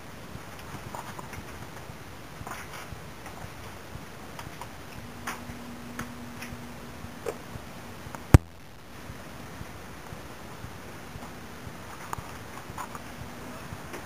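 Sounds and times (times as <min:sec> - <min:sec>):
faint steady hum: 0:00.0 - 0:14.0
footsteps and camera knocks: 0:00.3 - 0:14.0.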